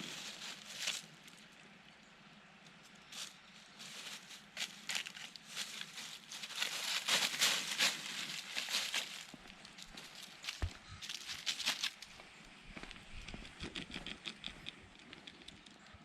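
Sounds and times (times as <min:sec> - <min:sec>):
crunching rustling footsteps: 0:00.0 - 0:01.5, 0:02.9 - 0:15.6.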